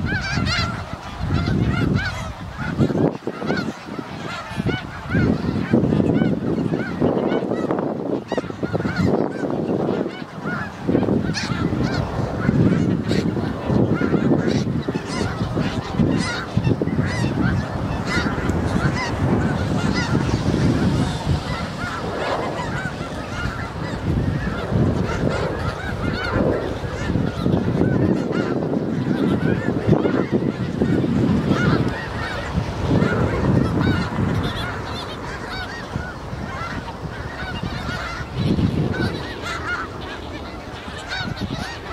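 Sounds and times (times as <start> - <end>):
flock of geese honking: 0.0 - 41.9.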